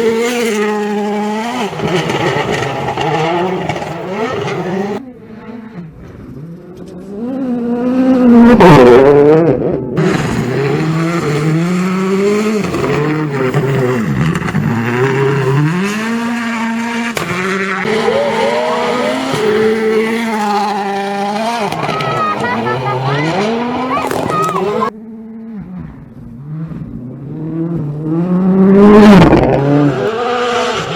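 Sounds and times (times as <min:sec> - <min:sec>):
rally car passing by: 0:00.0 - 0:30.9.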